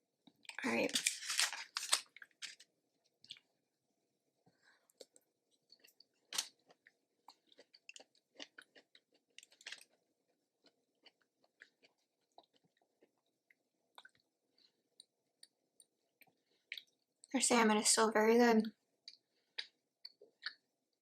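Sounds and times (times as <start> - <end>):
chewing food: 0.2 - 3.6, 4.4 - 17.3, 19.0 - 20.8.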